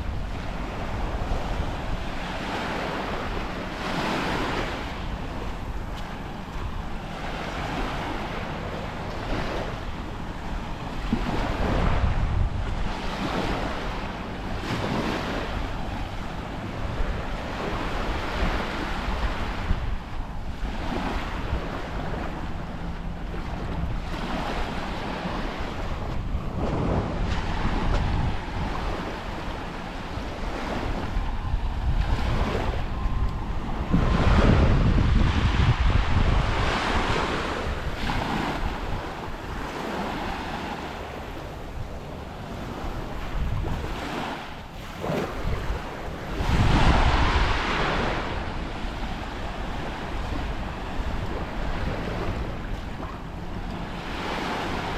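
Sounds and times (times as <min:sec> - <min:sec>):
sea waves breaking: 0:00.0 - 0:54.9
wind rumbling on microphone: 0:00.0 - 0:54.9.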